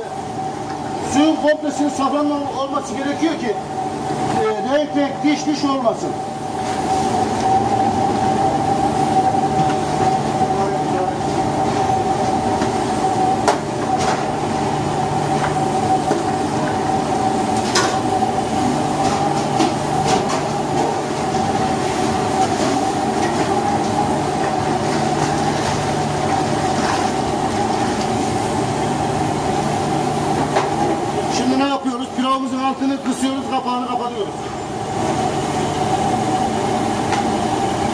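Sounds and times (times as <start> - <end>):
gas burner roaring: 0.0 - 37.9.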